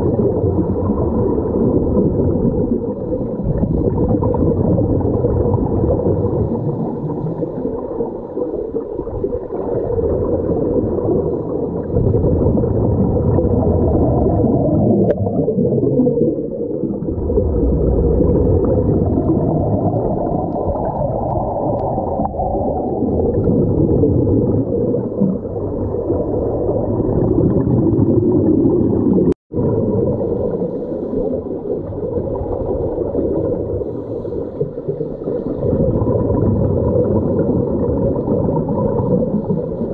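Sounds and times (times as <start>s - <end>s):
underwater regulator bubbling: 0.0s - 39.9s.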